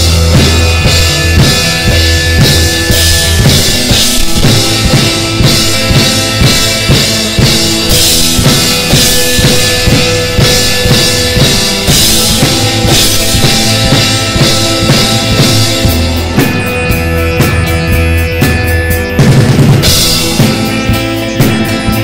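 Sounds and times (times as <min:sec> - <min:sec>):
music with drum beat: 0:00.0 - 0:22.0.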